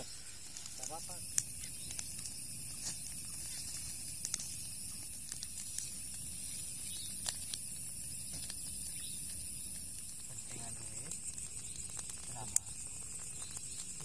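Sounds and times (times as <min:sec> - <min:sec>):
night insects chirring: 0:00.0 - 0:14.0
small clicks and crackles: 0:00.0 - 0:14.0.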